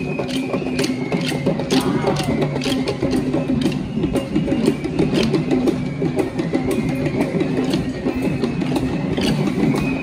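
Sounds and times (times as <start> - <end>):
drums playing dense beat: 0.0 - 10.0.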